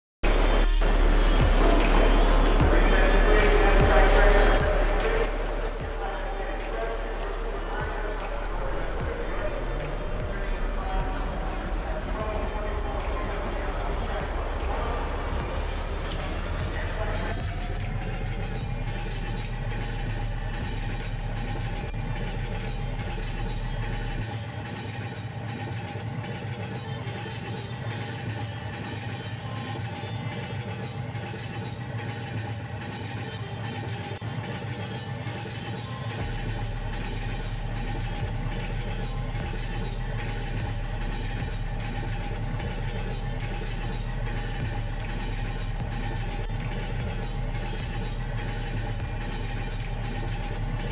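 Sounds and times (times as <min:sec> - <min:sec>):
vehicle engine humming: 0:00.2 - 0:50.9.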